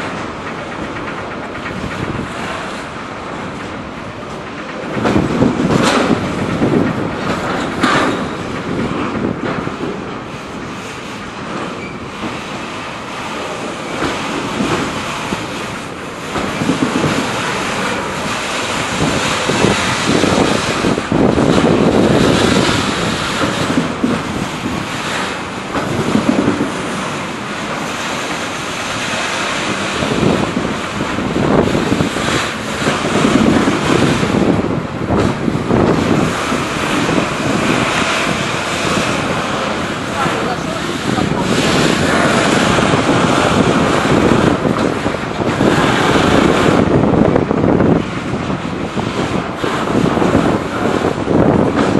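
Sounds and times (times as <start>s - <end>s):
train wheels rushing on rails: 0.0s - 51.9s
wind buffeting microphone: 0.0s - 51.9s.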